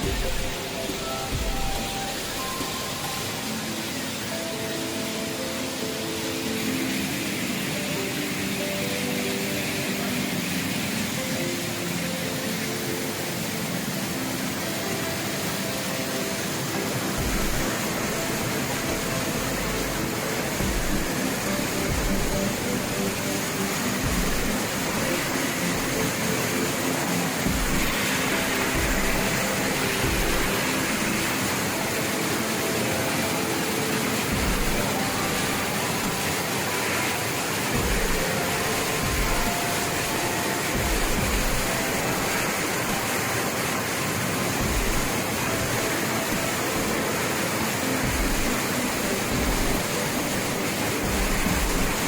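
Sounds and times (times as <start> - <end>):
waterfall roaring: 0.0 - 52.0.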